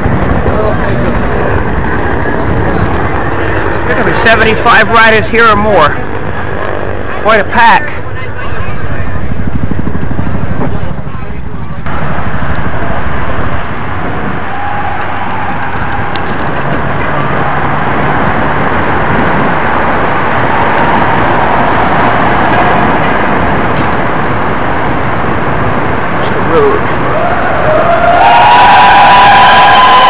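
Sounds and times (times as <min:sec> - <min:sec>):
pack of bicycles riding: 0:00.0 - 0:30.0
traffic: 0:00.0 - 0:30.0.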